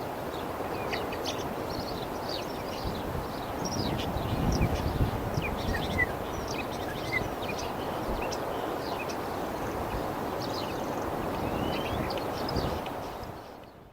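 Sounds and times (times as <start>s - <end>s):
songbirds chirping: 0.1s - 13.9s.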